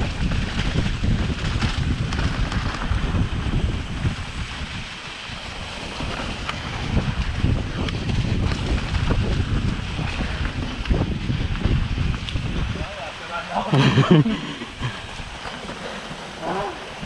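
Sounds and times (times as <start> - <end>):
mountain bike rattling on dirt trail: 0.0 - 17.0
wind buffeting microphone: 0.0 - 17.0.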